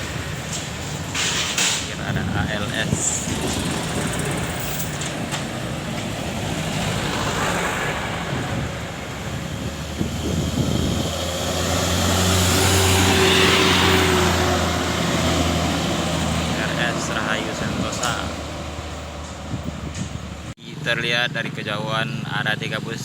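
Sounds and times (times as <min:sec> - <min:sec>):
bus diesel engine droning: 0:00.0 - 0:23.0
road traffic noise: 0:00.0 - 0:23.0.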